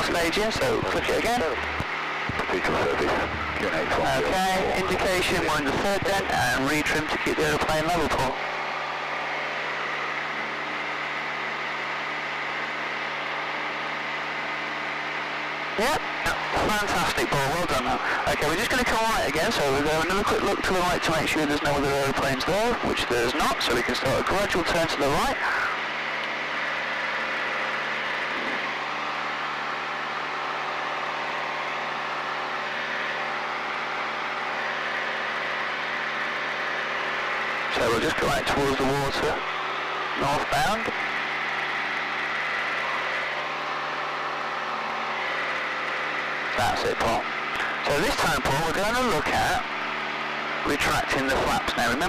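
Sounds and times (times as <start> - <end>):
airplane engine and propeller drone: 0.0 - 52.0.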